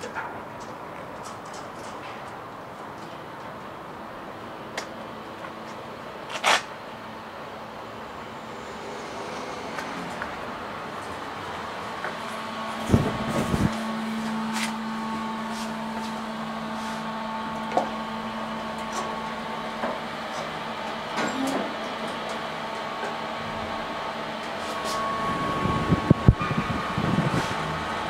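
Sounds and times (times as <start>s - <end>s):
elevator electrical hum: 0.0s - 28.0s.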